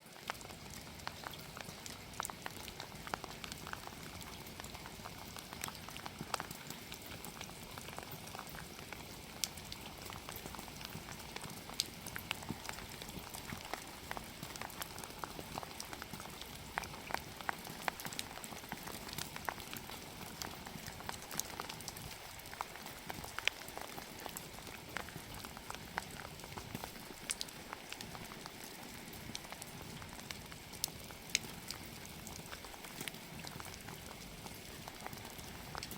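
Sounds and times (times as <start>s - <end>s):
wood fire crackling: 0.2s - 35.9s.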